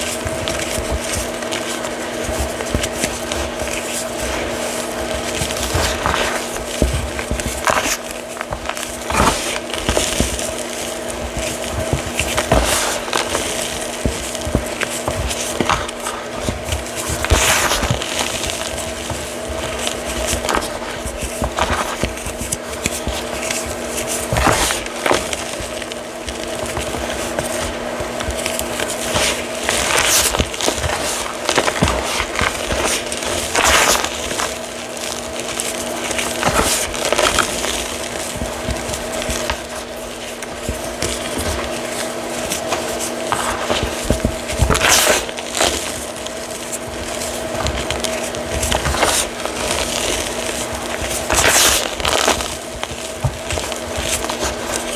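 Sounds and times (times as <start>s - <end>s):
chalk being crushed: 0.0s - 54.9s
steady background hum: 0.0s - 54.9s.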